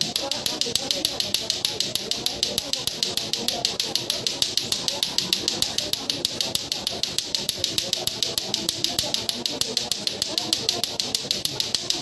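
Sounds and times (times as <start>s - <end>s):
plastic balls clacking together: 0.0s - 12.0s.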